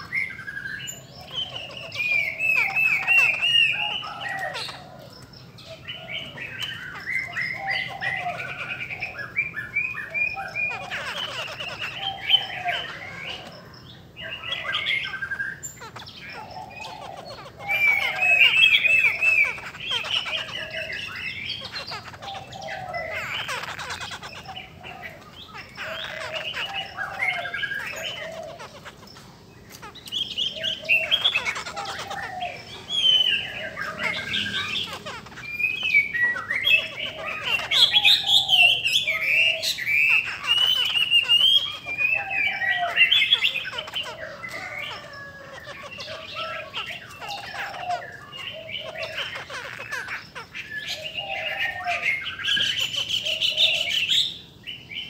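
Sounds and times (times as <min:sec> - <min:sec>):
birds singing whistled phrases: 0:00.0 - 0:55.0.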